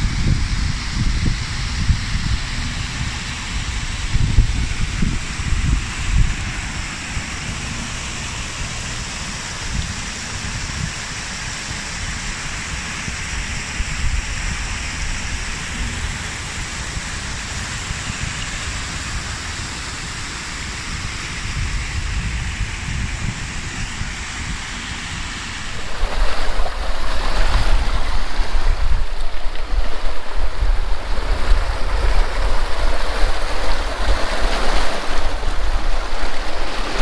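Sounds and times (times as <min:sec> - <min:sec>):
wind buffeting microphone: 0:00.0 - 0:37.0
falling water rushing: 0:02.5 - 0:37.0.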